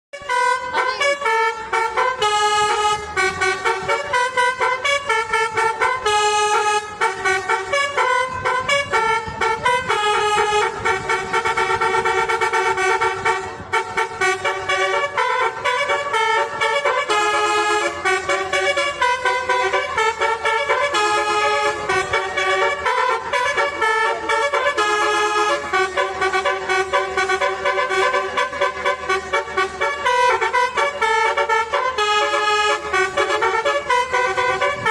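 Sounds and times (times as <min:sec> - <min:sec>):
vehicle horn honking: 0:00.2 - 0:34.9.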